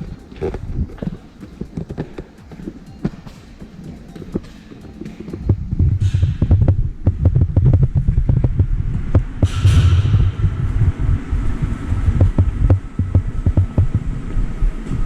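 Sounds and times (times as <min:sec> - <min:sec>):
wind buffeting microphone: 0:00.0 - 0:03.7, 0:05.3 - 0:15.0
sharp clicks and knocks: 0:00.0 - 0:11.4, 0:12.0 - 0:14.1.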